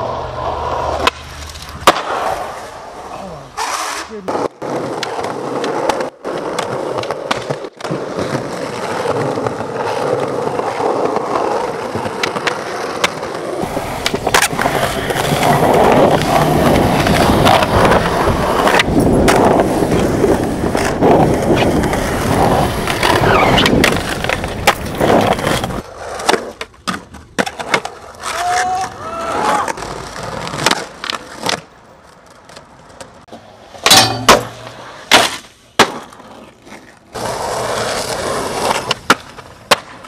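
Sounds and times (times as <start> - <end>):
skateboard scraping concrete ledge: 0.0 - 40.0
skateboards rolling on concrete: 0.0 - 40.0
skateboard snaps and clacks: 0.7 - 2.8, 3.6 - 40.0.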